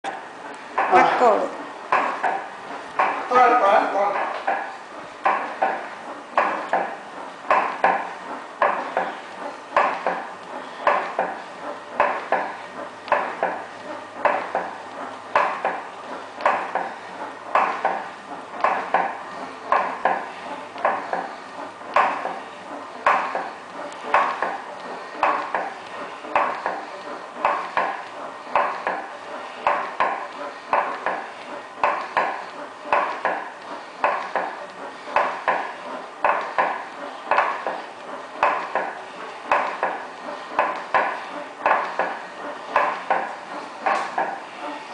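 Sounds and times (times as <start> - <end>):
elliptical trainer knocking: 0.1 - 44.5.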